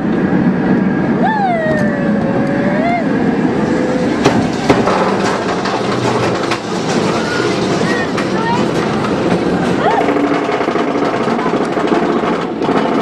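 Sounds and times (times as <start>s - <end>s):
roller coaster train rumble: 0.0s - 13.0s.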